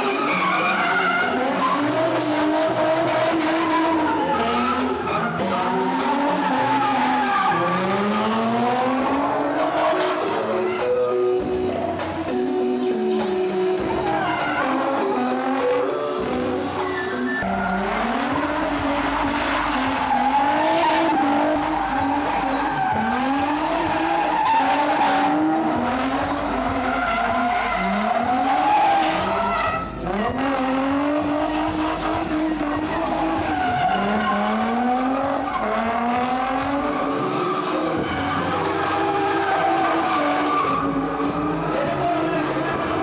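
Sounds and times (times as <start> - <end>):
car engine revving high: 0.0 - 10.6, 13.1 - 43.0
tyres squealing and skidding: 0.0 - 43.0.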